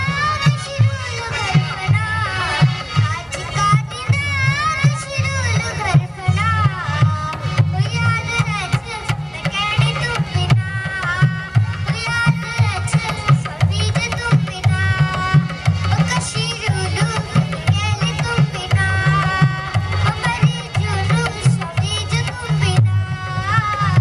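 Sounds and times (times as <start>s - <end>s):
girl singing into microphone: 0.0s - 24.0s
hand drums beating rhythm: 0.0s - 24.0s.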